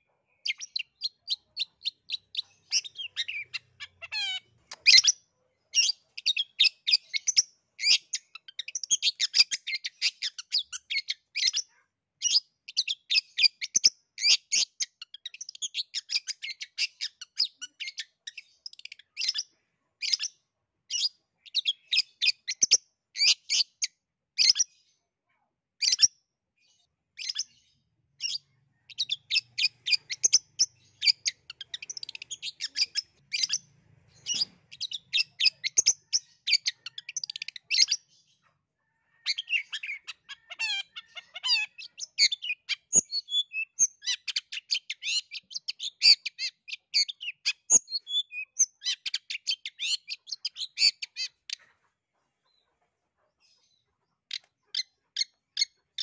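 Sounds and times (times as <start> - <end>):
bird chattering song: 0.0 - 24.9, 25.8 - 56.0.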